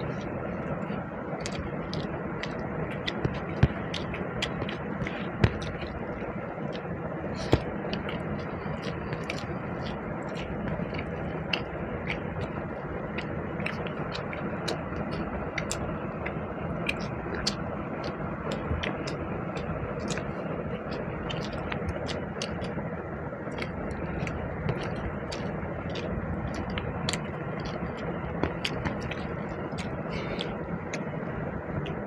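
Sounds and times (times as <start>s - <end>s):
person chewing food: 0.0s - 22.8s, 23.4s - 31.2s
steady background hum: 0.0s - 32.0s
wet mouth clicks and smacks: 1.4s - 22.8s, 23.5s - 31.1s.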